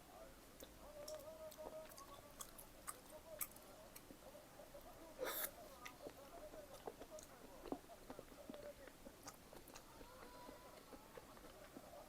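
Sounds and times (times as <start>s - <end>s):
close chewing: 0.6s - 12.0s.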